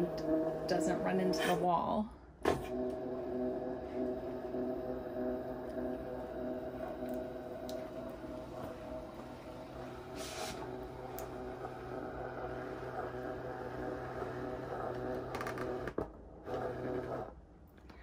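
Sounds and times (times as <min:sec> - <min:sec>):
cutting machine motor hum: 0:00.0 - 0:01.6, 0:02.5 - 0:17.3.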